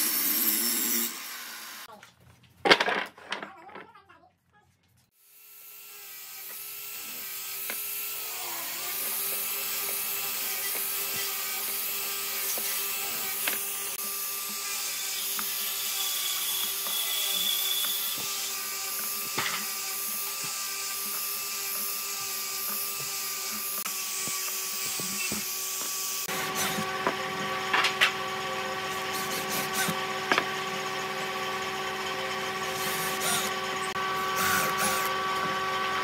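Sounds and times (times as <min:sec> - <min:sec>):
angle grinder sanding wood: 0:05.4 - 0:36.0.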